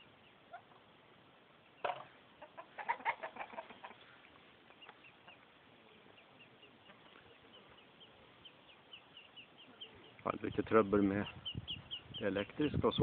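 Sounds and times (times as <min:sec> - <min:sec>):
hen clucking: 0:00.0 - 0:01.0, 0:01.6 - 0:13.0.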